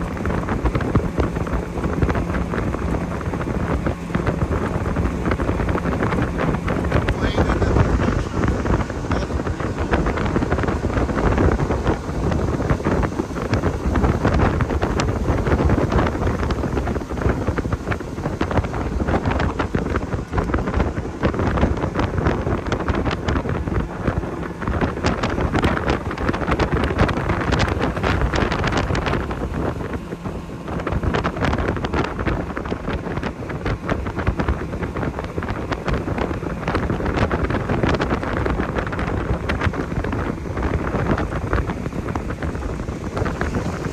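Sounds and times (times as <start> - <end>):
motorboat running: 0.0 - 43.9
water rushing: 0.0 - 43.9
wind buffeting microphone: 0.0 - 43.9.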